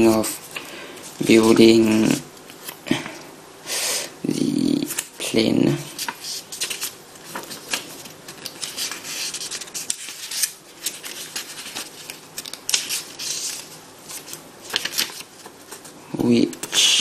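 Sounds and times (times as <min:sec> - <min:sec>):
paper pages flipping: 0:00.0 - 0:02.8, 0:05.9 - 0:16.9.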